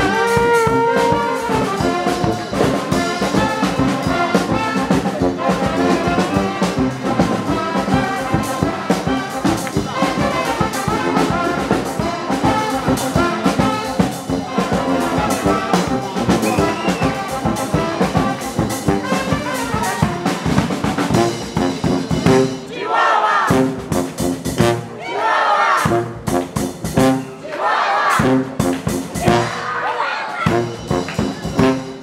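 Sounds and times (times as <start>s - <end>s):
bass drum beat: 0.0s - 22.6s, 23.5s - 24.9s, 25.9s - 27.2s, 28.2s - 29.6s, 30.5s - 32.0s
brass band playing: 0.0s - 32.0s.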